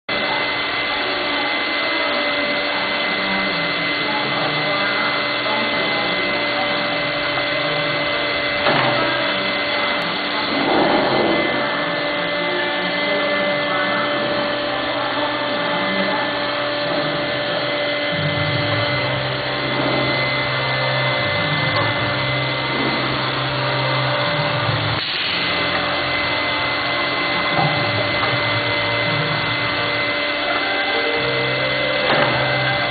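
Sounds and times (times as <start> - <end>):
woodworking machine whirring: 0.1 - 32.9
low drone: 0.5 - 32.9.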